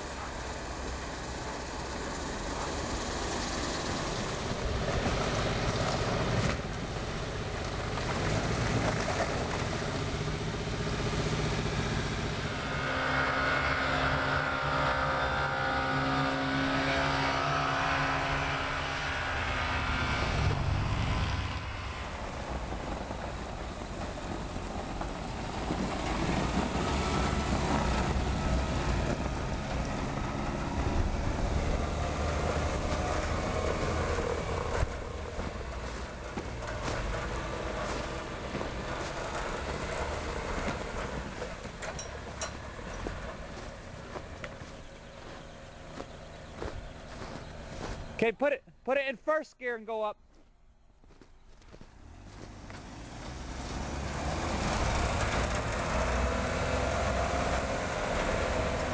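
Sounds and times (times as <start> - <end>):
small truck engines revving: 0.0 - 49.0, 51.0 - 58.9.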